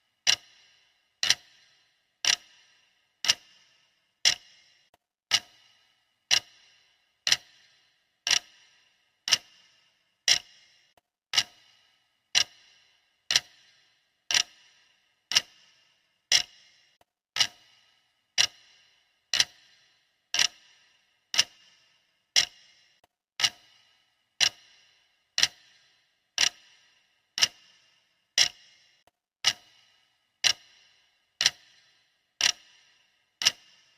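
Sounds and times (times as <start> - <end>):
clock ticking: 0.0 - 33.9.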